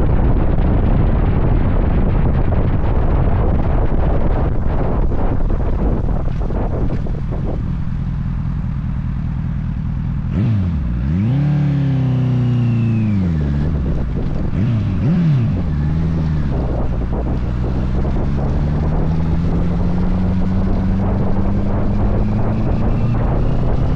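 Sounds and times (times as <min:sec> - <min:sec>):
wind buffeting microphone: 0:00.0 - 0:08.2, 0:12.8 - 0:23.9
motorcycle engine: 0:00.0 - 0:23.9.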